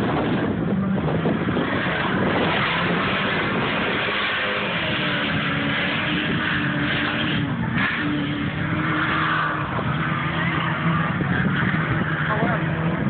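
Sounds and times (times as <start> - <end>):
race engines running: 0.0 - 13.0
steady rushing noise: 0.0 - 13.0.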